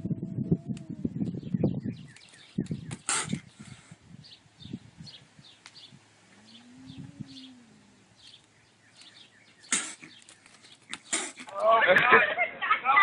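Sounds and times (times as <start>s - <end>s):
small birds chirping: 0.8s - 11.8s.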